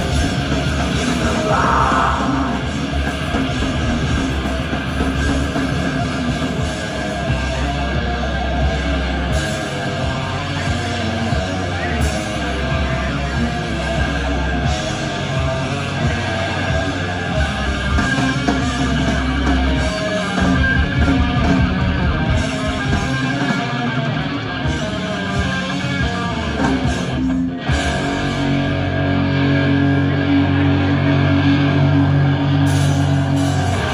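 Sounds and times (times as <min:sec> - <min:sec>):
death metal band playing: 0:00.0 - 0:33.9.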